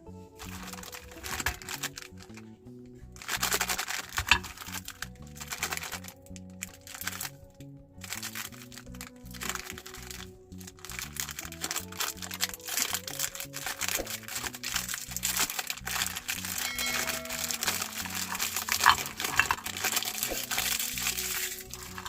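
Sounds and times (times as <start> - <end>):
background music: 0.0 - 22.0
meat grinder crunching biscuits: 0.4 - 2.4, 3.2 - 7.4, 8.1 - 22.0.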